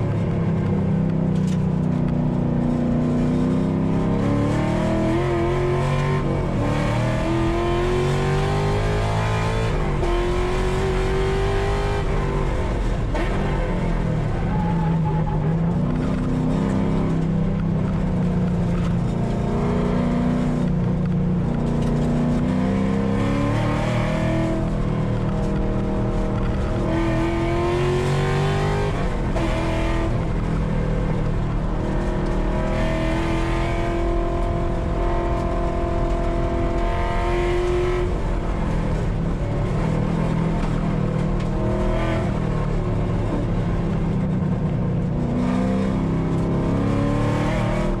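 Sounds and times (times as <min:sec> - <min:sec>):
car engine revving: 0:01.4 - 0:48.0.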